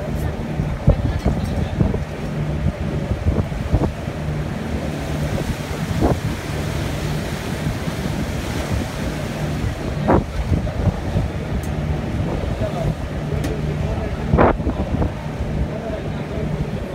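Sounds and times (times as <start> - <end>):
low engine hum: 0.0 - 16.9
water rushing past hull: 0.0 - 16.9
water splashes: 0.0 - 16.9
wind buffeting microphone: 0.0 - 16.9.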